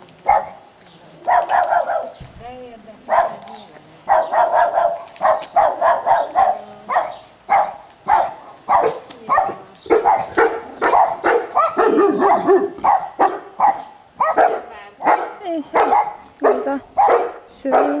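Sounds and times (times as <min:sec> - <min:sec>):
dog barking rapidly: 0:00.3 - 0:00.6, 0:01.3 - 0:02.2, 0:03.1 - 0:03.4, 0:04.1 - 0:18.0.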